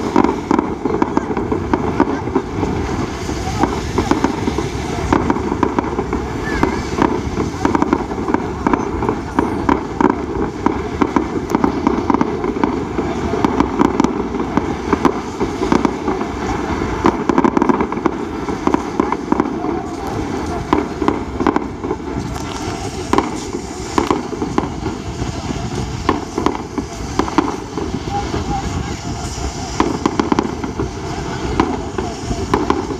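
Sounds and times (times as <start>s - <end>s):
fireworks popping and banging: 0.0s - 32.9s.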